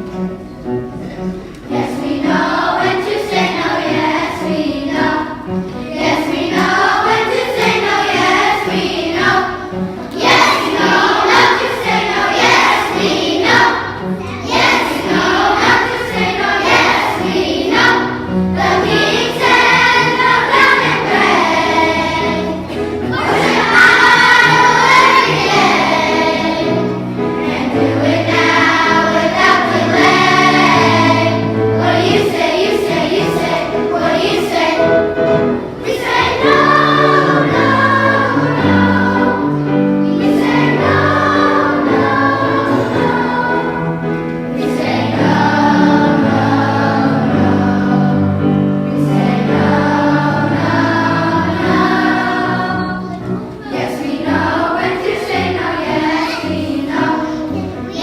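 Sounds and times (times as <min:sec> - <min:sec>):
children's choir singing: 0:00.0 - 0:58.0
instrumental accompaniment: 0:00.0 - 0:58.0.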